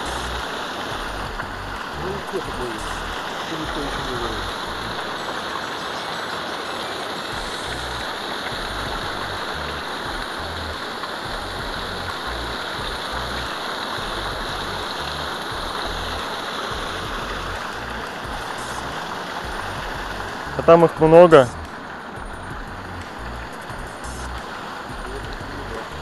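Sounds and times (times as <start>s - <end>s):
water rushing through sluice: 0.0s - 26.0s.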